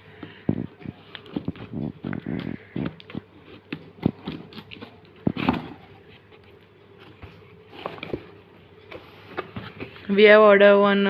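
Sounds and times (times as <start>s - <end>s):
packaging crinkling and rustling: 0.7s - 10.1s.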